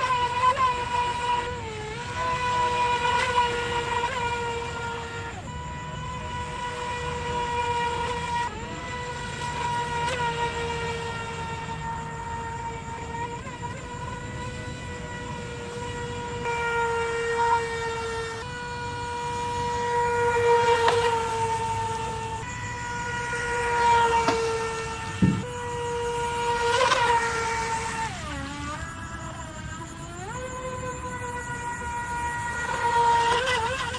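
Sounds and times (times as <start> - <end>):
speedboat motor whining: 0.0 - 33.9.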